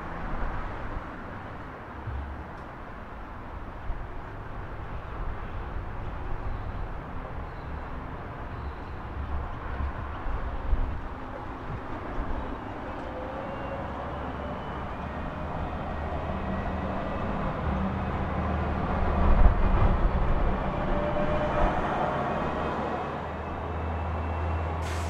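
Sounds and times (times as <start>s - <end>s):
large vehicle rumble: 0.0s - 25.0s
street noise: 0.0s - 25.0s.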